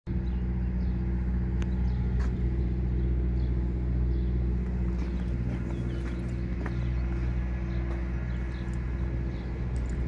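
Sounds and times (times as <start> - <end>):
diesel truck engine idling: 0.1 - 10.0.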